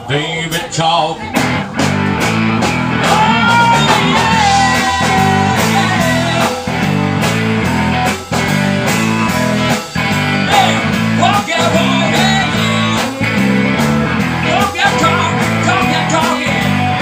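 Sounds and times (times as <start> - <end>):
bass riff: 0.0 - 17.0
drum beats: 0.0 - 17.0
electric guitar with bent notes: 0.0 - 17.0.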